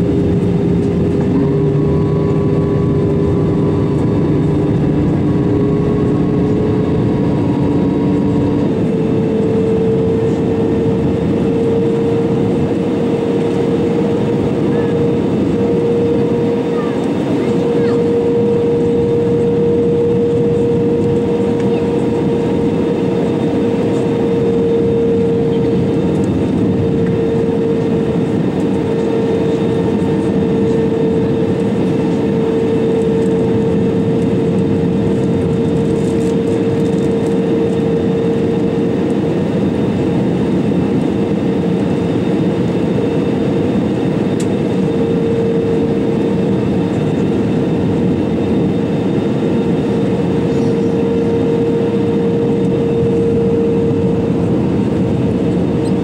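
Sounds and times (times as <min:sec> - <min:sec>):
airplane cabin airflow and engines: 0:00.0 - 0:56.0
constant hum tone: 0:00.0 - 0:56.0.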